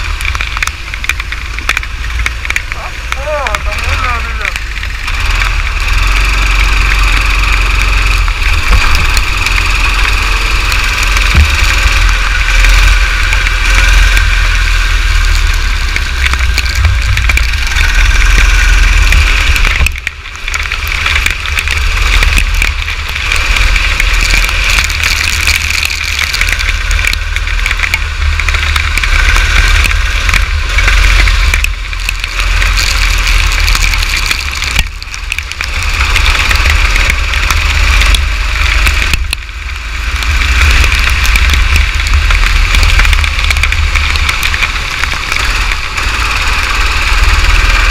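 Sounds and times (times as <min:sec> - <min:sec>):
kart engine running hard: 0:00.0 - 0:47.9
wind and rain noise: 0:00.0 - 0:47.9.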